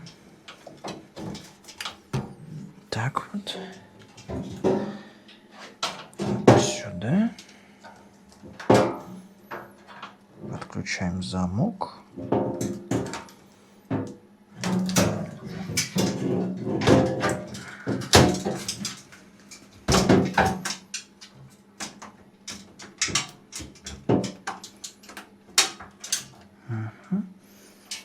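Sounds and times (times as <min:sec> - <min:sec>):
hands working on washing machine parts: 0:00.0 - 0:02.8, 0:03.6 - 0:10.6, 0:12.2 - 0:26.5.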